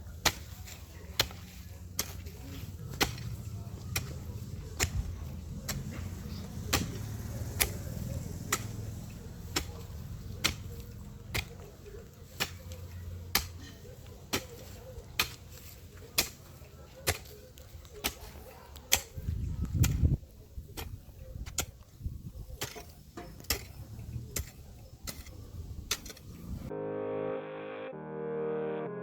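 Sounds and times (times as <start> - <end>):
digging tool striking soil: 0.0 - 13.6, 14.2 - 21.8, 22.5 - 26.3.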